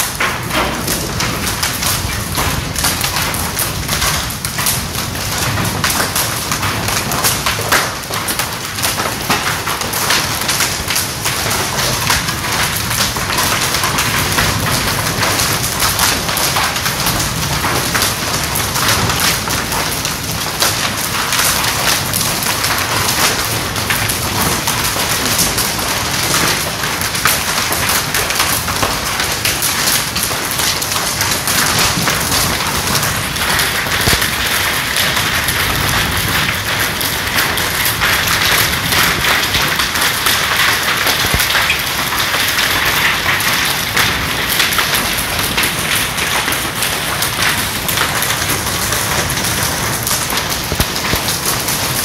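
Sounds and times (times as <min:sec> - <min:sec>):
hail striking hard surfaces: 0:00.0 - 0:52.0.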